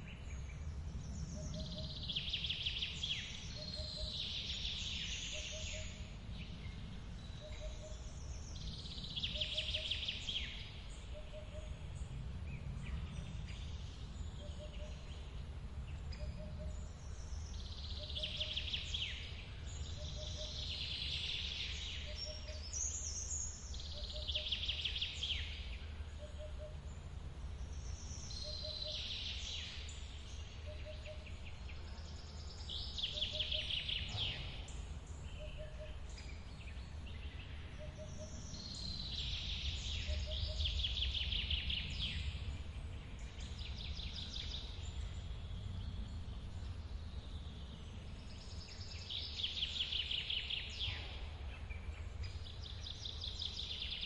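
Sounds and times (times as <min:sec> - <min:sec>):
birds singing trilling phrases: 0:00.0 - 0:12.0, 0:12.6 - 0:54.0.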